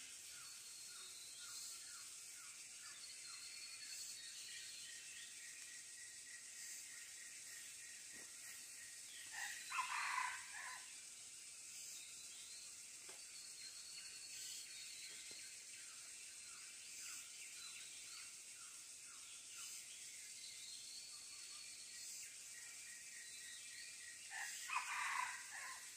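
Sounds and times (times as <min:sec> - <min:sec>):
insects buzzing: 0:00.0 - 0:25.9.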